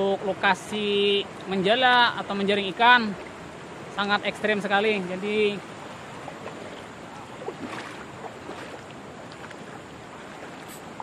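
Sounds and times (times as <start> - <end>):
river flowing over rocks: 0.0 - 11.0.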